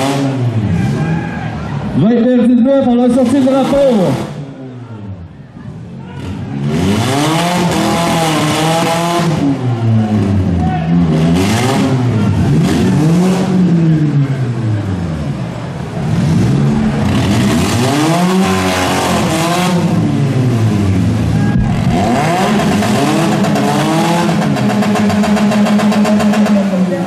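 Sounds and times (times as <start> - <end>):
car engines revving hard: 0.0 - 2.0, 3.0 - 4.8, 5.6 - 27.0.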